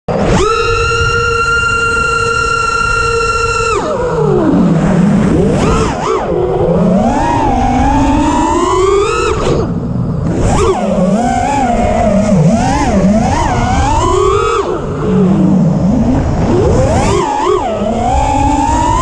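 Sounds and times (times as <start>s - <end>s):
drone motors whining: 0.1s - 19.0s.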